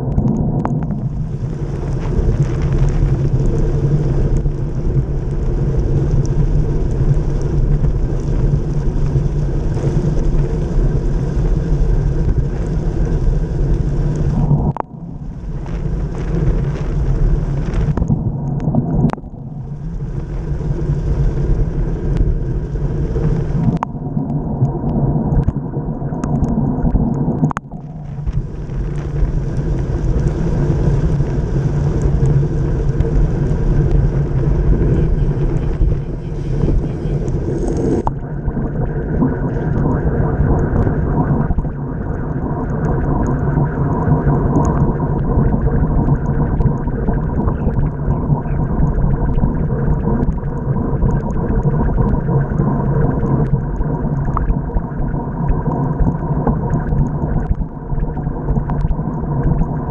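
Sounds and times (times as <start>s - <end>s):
wind buffeting microphone: 0.0s - 55.3s.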